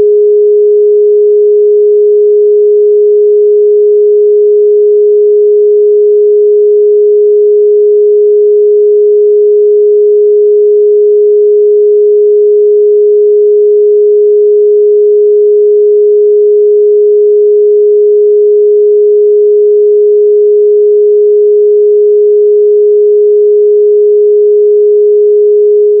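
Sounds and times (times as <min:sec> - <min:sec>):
steady sine tone: 0:00.0 - 0:26.0.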